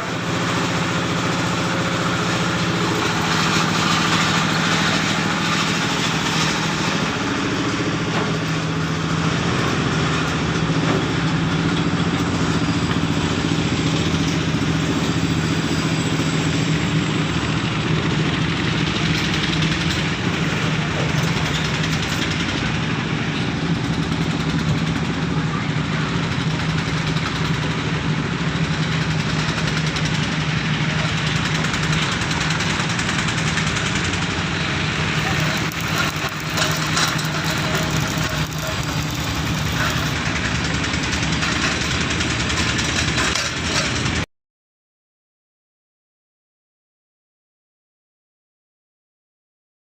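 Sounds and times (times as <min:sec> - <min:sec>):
engine idling: 0:00.0 - 0:44.2.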